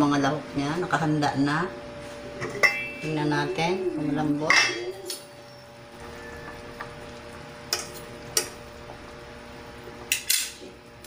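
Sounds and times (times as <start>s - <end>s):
pot boiling and bubbling: 0.0s - 11.0s.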